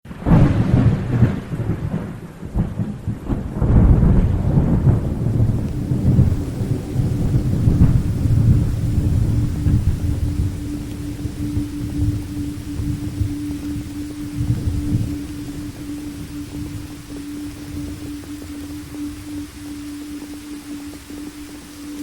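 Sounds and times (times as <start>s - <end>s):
rain: 0.0s - 22.0s
thunder rumbling: 0.1s - 22.0s
faint steady low hum: 3.8s - 22.0s.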